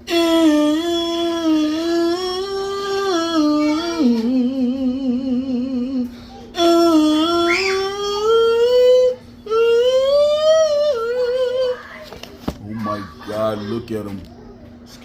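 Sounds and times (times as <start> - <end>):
person singing with vibrato: 0.0 - 12.0.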